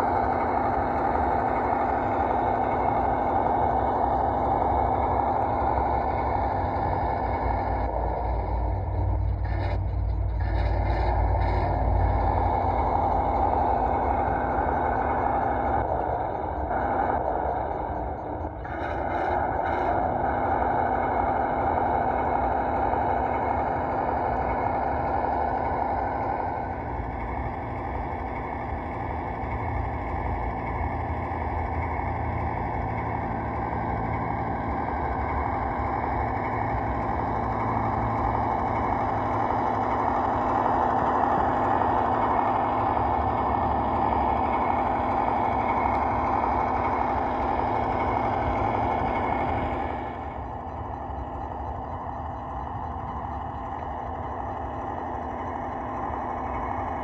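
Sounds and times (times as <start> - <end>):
simulated truck engine sound: 0.0 - 57.0.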